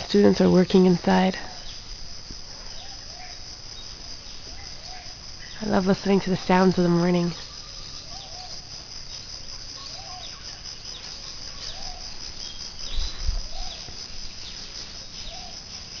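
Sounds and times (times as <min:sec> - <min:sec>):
insects shrilling: 0:00.0 - 0:16.0
short low insect call: 0:00.0 - 0:16.0.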